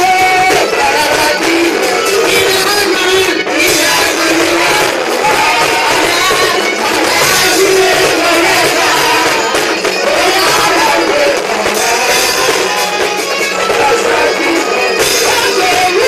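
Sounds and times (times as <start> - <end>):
gospel instrumental accompaniment: 0.0 - 16.0
woman singing into a microphone: 0.0 - 16.0.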